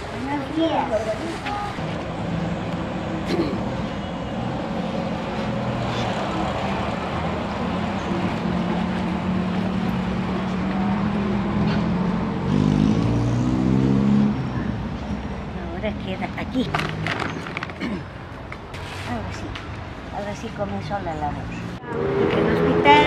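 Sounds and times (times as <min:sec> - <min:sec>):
passing vehicles: 0:00.0 - 0:23.0.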